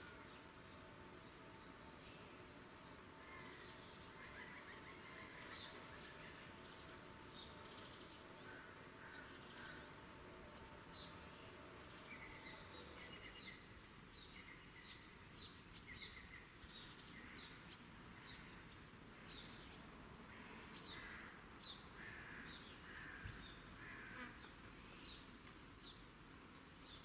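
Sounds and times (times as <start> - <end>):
low background hiss: 0.0 - 27.0.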